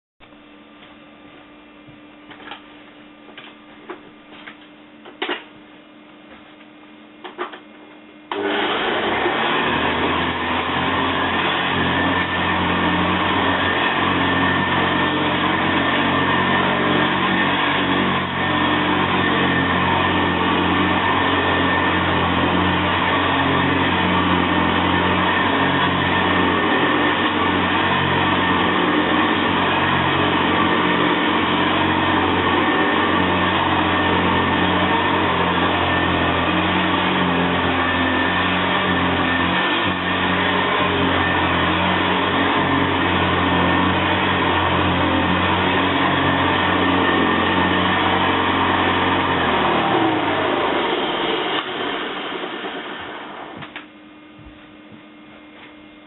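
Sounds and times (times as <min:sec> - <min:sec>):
upright vacuum cleaner running: 0:06.2 - 0:56.0.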